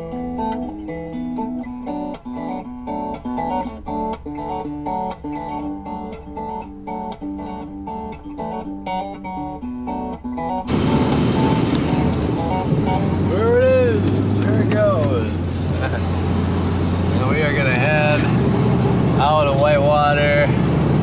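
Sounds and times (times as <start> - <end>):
acoustic guitar picking: 0.0 - 21.0.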